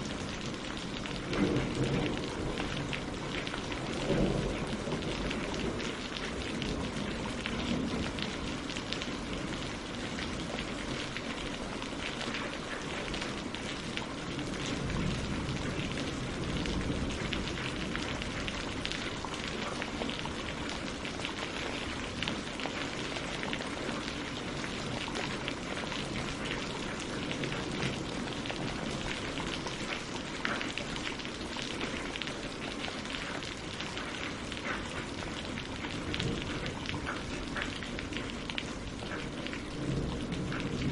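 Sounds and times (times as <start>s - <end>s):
rain on leaves and water: 0.0s - 40.9s.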